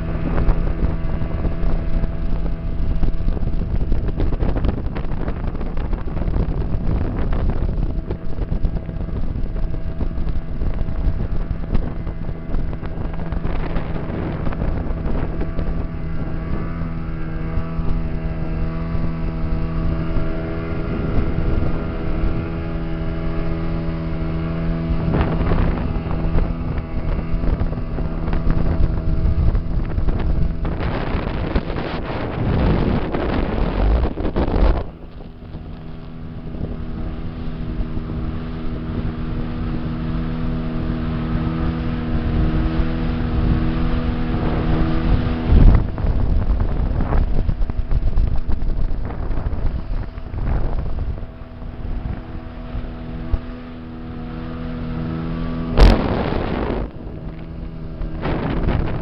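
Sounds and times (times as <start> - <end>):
speedboat engine droning: 0.0 - 59.0
wind on microphone: 0.0 - 59.0.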